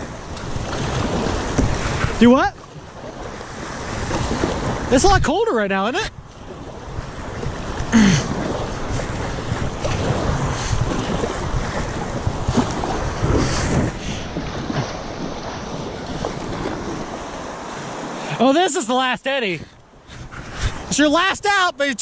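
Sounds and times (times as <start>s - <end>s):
river water rushing: 0.0s - 5.2s, 6.4s - 22.0s
wind buffeting microphone: 0.0s - 18.2s, 19.5s - 21.5s
paddle splashing: 0.0s - 22.0s.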